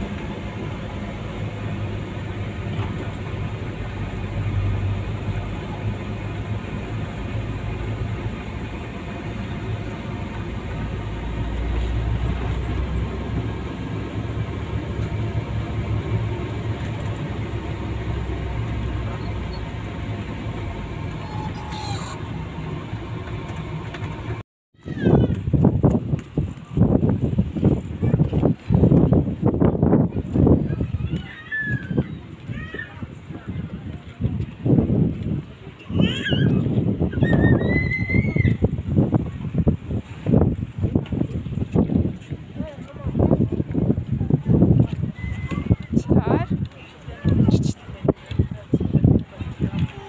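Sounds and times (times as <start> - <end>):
vehicle engine and road rumble: 0.0 - 50.0.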